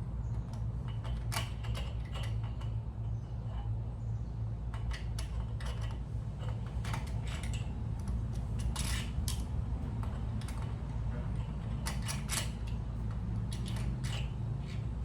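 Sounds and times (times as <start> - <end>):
steady low hum: 0.0 - 15.0
small metal parts clinking: 0.9 - 3.8, 4.7 - 15.0.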